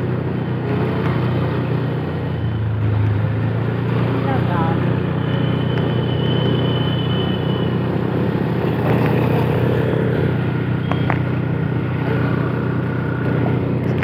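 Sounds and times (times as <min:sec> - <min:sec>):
motorbike and car engines running: 0:00.0 - 0:14.0.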